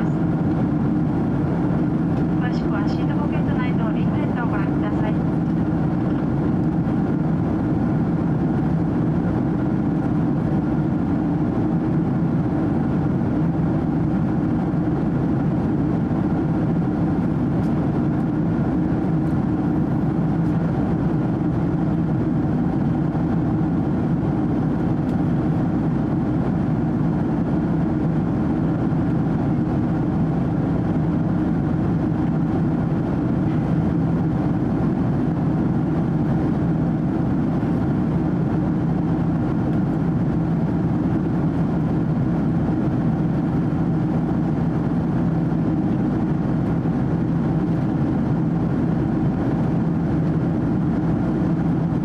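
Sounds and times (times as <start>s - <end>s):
jet engines droning: 0.0s - 52.0s.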